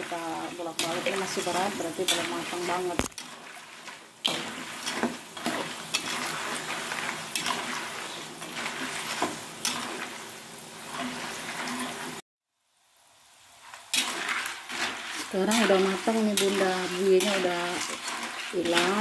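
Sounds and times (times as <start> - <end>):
metal spoon scraping wok: 0.0 - 12.2, 13.8 - 19.0
crackers frying in hissing oil: 0.0 - 19.0.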